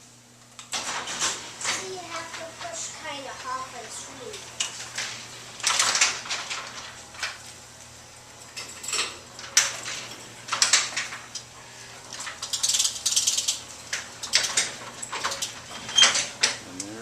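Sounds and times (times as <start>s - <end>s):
motorized door clacking and rattling: 0.4s - 17.0s.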